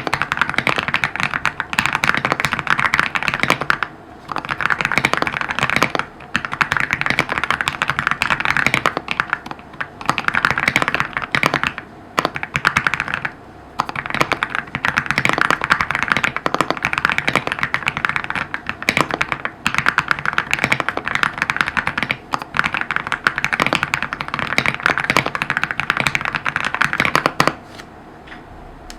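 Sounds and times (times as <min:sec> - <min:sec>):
mechanical keyboard typing: 0:00.0 - 0:27.6.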